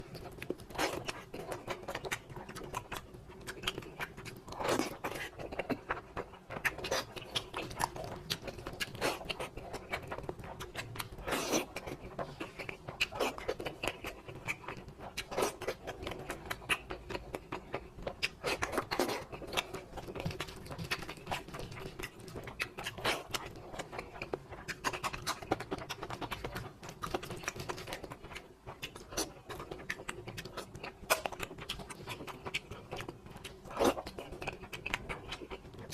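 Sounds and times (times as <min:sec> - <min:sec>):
crunchy food clicks: 0:00.0 - 0:35.9.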